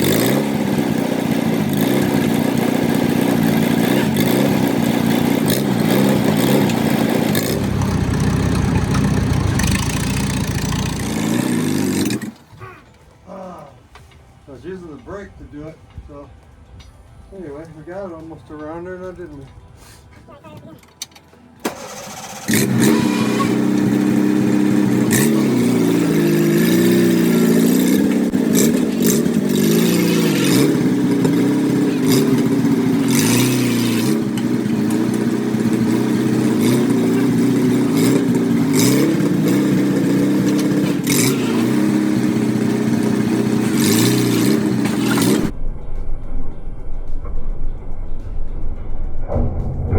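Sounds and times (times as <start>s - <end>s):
tractor engine running: 0.0s - 13.2s, 21.0s - 49.9s.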